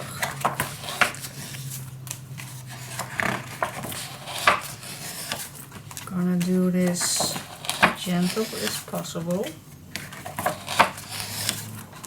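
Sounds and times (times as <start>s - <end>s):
scissors snipping paper: 0.2s - 12.0s.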